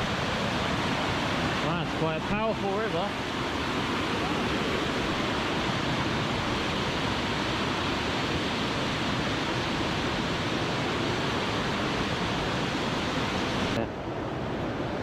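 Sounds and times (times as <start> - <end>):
powerful river rushing: 0.0 - 15.0.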